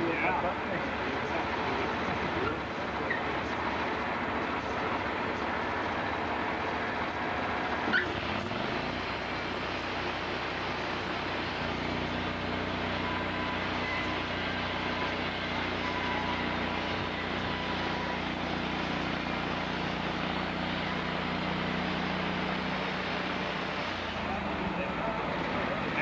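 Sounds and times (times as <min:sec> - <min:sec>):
sawmill machinery hum: 0:00.0 - 0:26.0.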